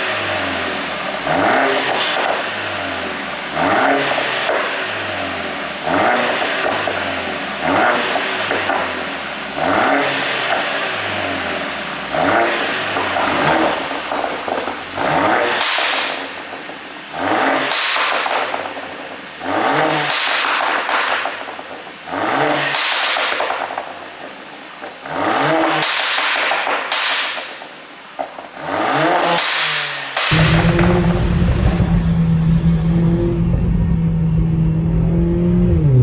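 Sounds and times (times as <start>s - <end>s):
car engine revving: 0.0s - 26.0s, 28.4s - 36.0s
exhaust crackling and popping: 0.0s - 36.0s.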